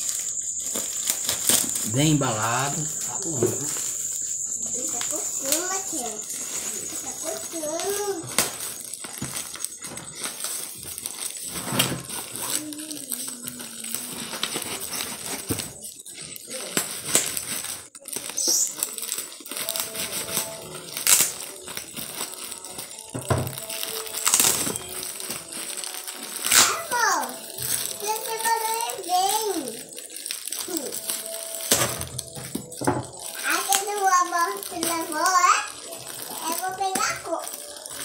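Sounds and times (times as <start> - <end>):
plastic film crinkling: 0.0 - 38.0.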